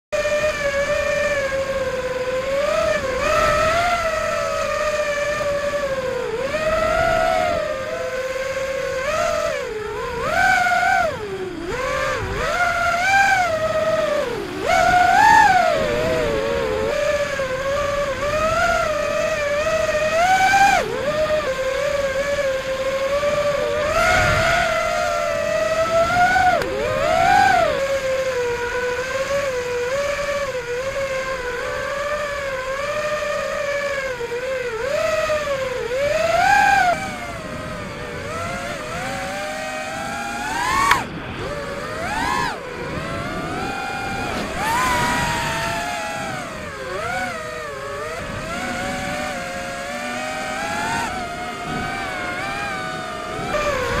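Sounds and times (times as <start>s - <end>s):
quadcopter motors whining: 0.2s - 54.0s
wind noise: 0.2s - 54.0s.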